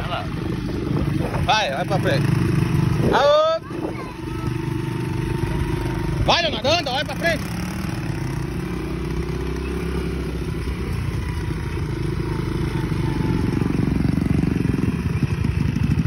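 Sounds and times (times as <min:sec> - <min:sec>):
quad bike engines running: 0:00.0 - 0:16.0.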